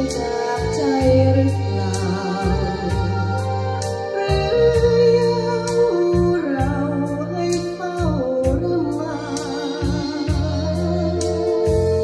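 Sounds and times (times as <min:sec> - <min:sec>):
pop song from vinyl record: 0:00.0 - 0:12.0
pulsing bass beat: 0:00.0 - 0:12.0.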